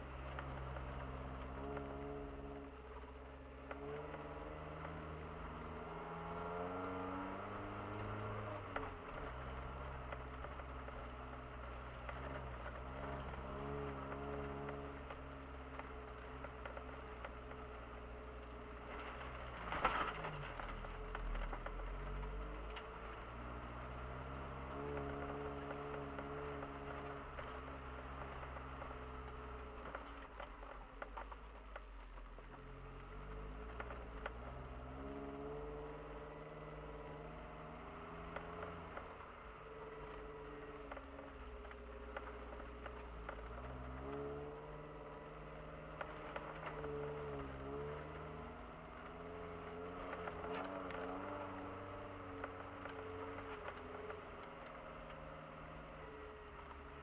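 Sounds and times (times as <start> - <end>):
car engine running: 0.0 - 57.0
branches striking car front: 3.6 - 55.7
twigs clicking and scraping: 3.6 - 57.0.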